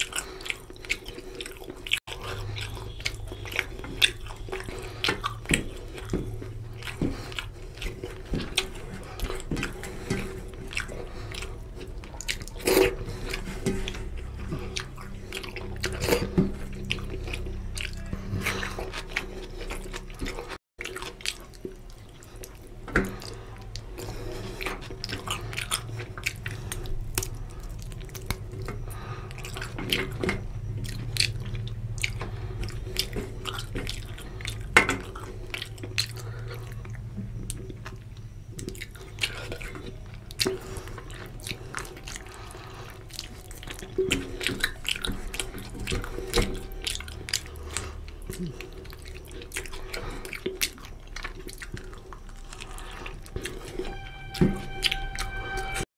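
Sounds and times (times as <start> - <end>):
chewing and wet mouth sounds: 0.0 - 55.9.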